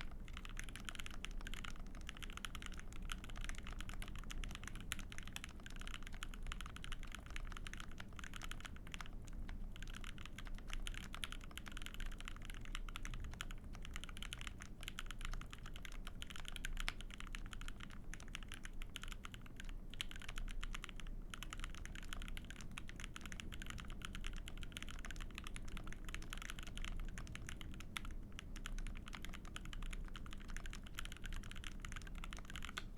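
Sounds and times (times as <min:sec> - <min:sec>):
mechanical keyboard typing: 0:00.0 - 0:32.9.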